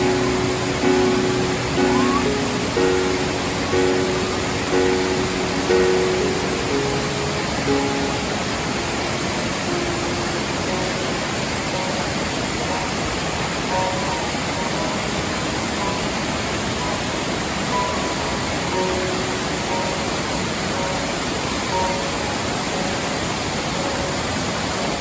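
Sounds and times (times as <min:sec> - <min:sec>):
soft faint music notes: 0:00.0 - 0:25.0
waterfall rushing: 0:00.0 - 0:25.0.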